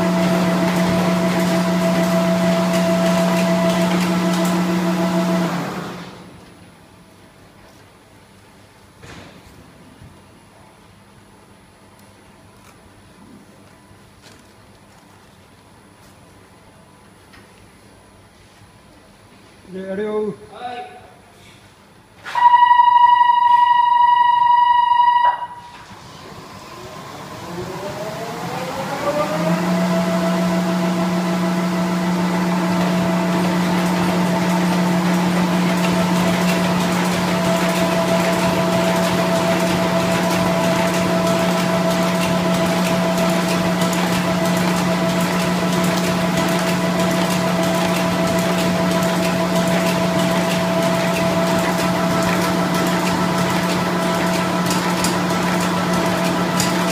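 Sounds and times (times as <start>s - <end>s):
machine drive whine and hum: 0.0s - 14.2s, 22.4s - 56.9s.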